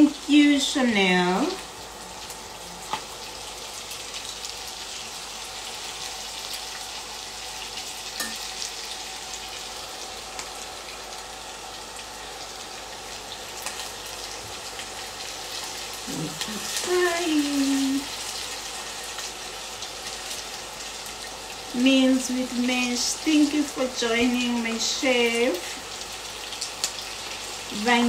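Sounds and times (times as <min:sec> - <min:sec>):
chicken wings frying in oil: 0:00.0 - 0:28.0.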